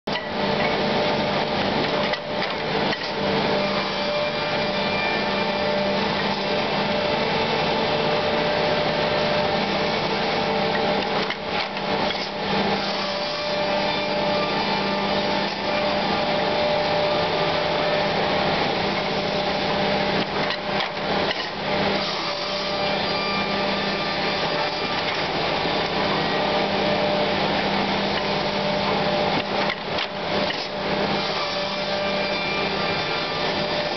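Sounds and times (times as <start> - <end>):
woodworking machine droning: 0.1 - 33.9.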